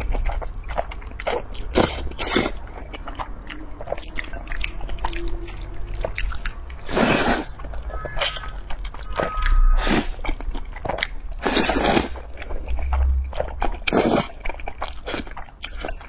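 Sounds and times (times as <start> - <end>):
noodles slurped: 0.0 - 9.2, 9.8 - 16.0
wet chewing: 0.0 - 16.0.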